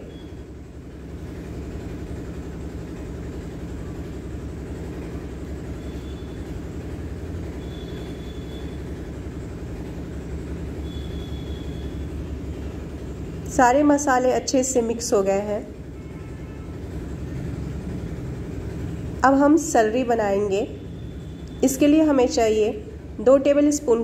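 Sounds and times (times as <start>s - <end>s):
faint high whine: 0.0s - 0.9s, 4.8s - 24.0s.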